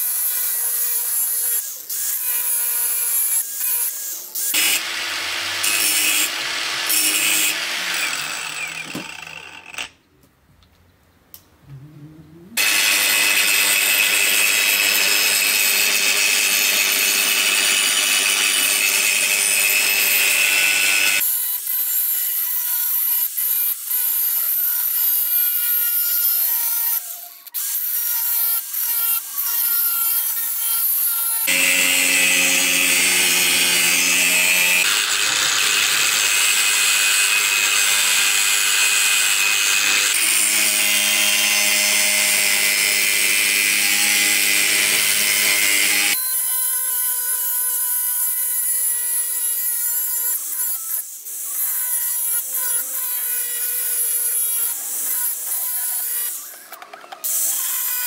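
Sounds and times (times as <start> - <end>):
angle grinder cutting steel: 0.0 - 10.0, 12.6 - 58.0.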